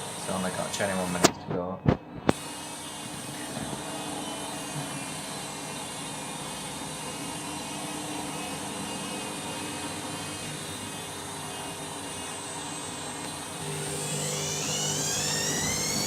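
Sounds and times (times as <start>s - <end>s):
washing machine spinning: 0.0s - 1.2s, 2.0s - 16.0s.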